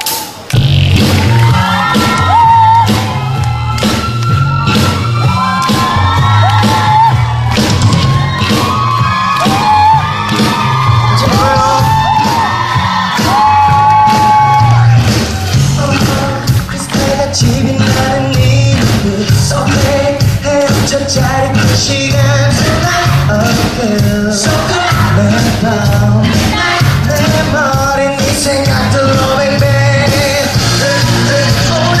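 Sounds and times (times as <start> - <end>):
crowd whooping and yelling: 0.0 - 20.2, 21.8 - 32.0
upbeat pop dance track: 0.8 - 32.0.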